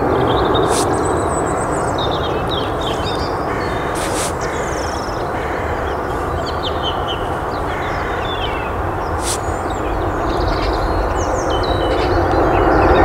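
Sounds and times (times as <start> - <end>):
birds chirping: 0.0 - 13.0
jet engine rushing: 0.0 - 13.0.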